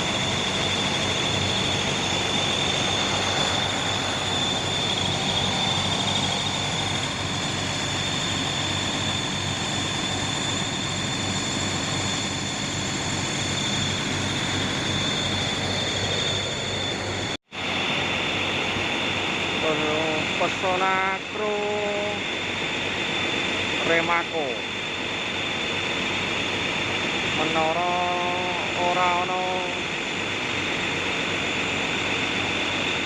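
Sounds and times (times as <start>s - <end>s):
high-pitched whine: 0.0s - 33.0s.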